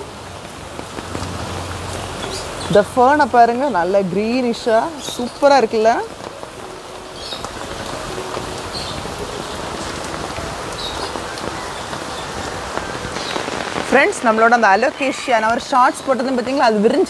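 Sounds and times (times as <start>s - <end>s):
steady rain on plants: 0.0s - 17.0s.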